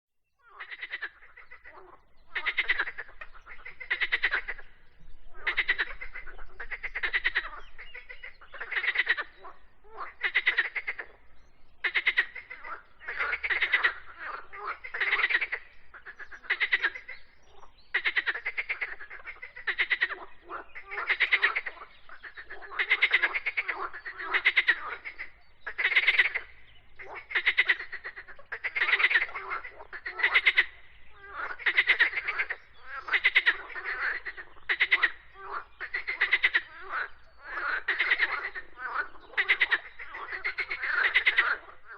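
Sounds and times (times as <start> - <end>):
frogs croaking: 0.4 - 41.9.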